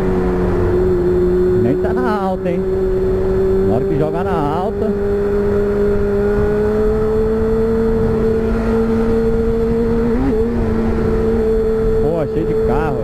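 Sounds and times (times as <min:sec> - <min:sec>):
motorcycle engine riding: 0:00.0 - 0:13.0.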